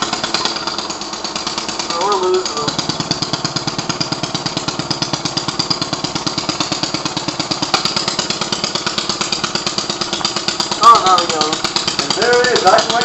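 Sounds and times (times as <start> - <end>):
lawn mower engine popping: 0.0 - 13.0.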